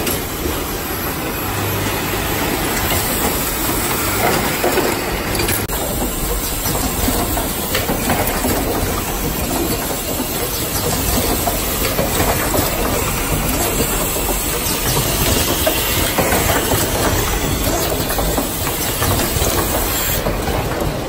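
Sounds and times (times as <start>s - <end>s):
machine mechanical clatter: 0.0s - 21.0s.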